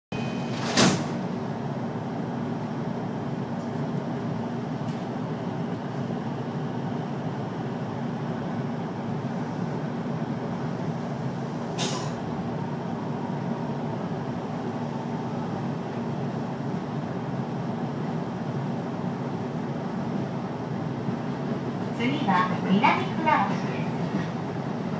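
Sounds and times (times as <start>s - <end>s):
train wheels rumbling on rail: 0.2s - 24.9s.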